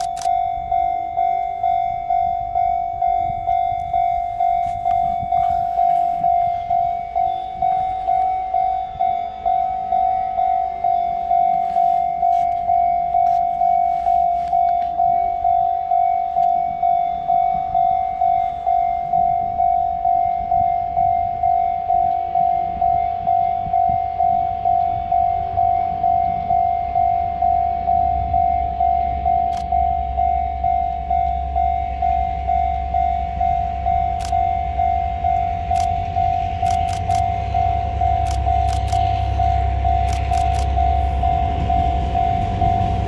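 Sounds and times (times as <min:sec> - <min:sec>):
level crossing bell ringing: 0:00.0 - 0:43.0.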